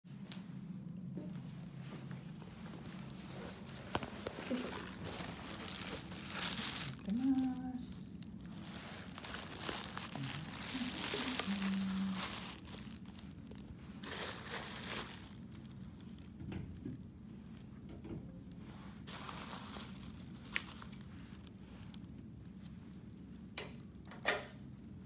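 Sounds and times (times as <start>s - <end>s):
crinkling and rustling: 0.1s - 24.7s.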